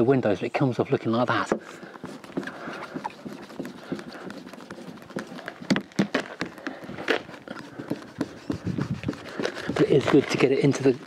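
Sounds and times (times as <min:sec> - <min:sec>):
clay bar scuffing and squeaking: 0:00.8 - 0:11.0.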